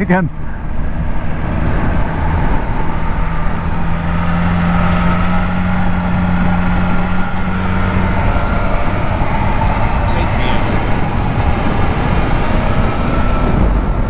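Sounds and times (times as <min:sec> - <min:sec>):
motorcycle engine running: 0:00.0 - 0:14.0
road noise: 0:00.0 - 0:14.0
rushing wind: 0:00.0 - 0:14.0.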